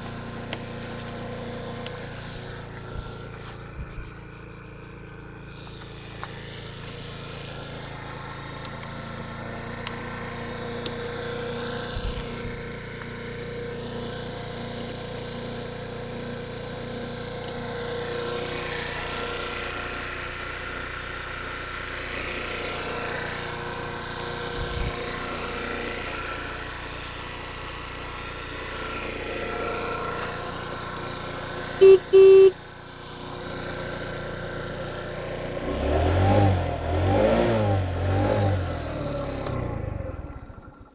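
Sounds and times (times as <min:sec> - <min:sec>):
scooter engine running: 0:00.0 - 0:40.9.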